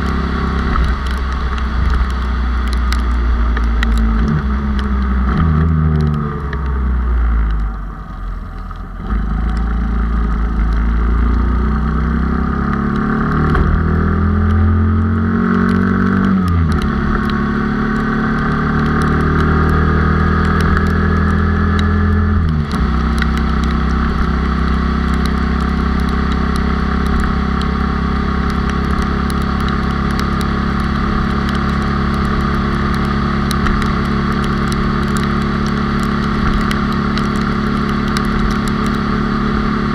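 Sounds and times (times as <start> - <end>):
motorcycle engine revving: 0.0 - 7.4, 9.0 - 39.9.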